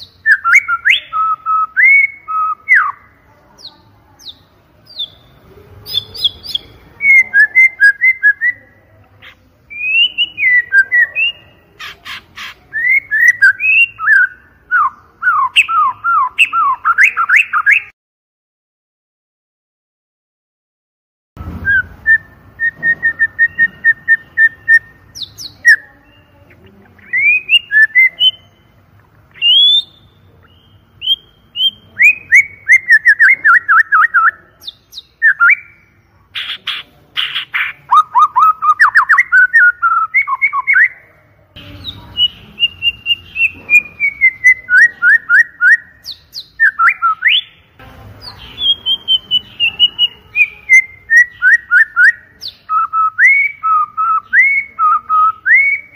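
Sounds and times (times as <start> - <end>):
bird singing loudly: 0.0 - 17.9, 21.6 - 55.9.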